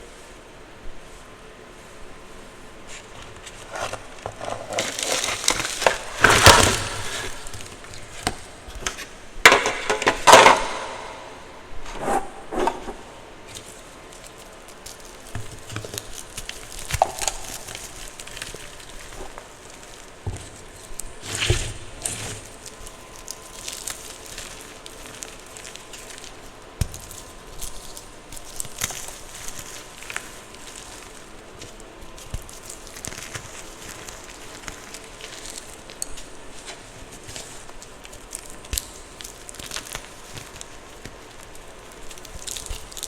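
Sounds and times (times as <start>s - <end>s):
chalk crunching and crackling: 0.0s - 43.0s.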